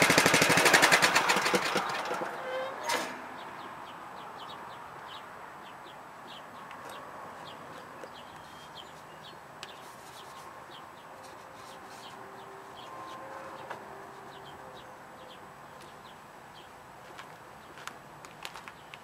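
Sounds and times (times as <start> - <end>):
small birds chirping: 2.2 - 19.0.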